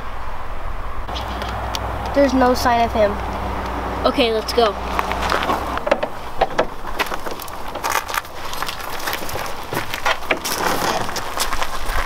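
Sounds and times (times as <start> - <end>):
footsteps on gravel: 1.1 - 12.0
gear jingling: 1.1 - 12.0.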